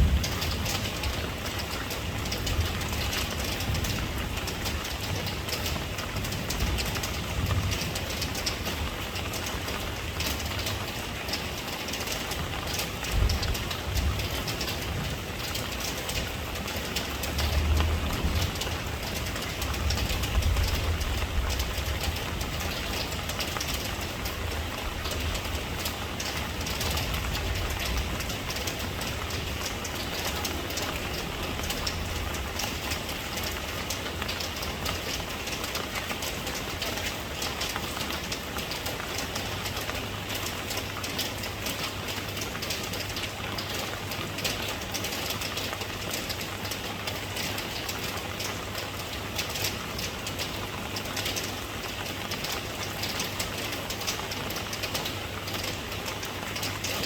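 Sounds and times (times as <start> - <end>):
rain patter: 0.0 - 57.0.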